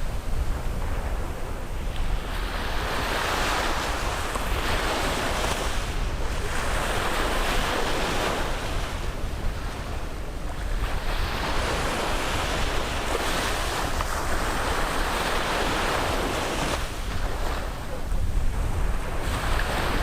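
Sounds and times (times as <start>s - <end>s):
sea waves breaking on beach: 0.0s - 20.0s
wind rumbling on microphone: 0.0s - 20.0s.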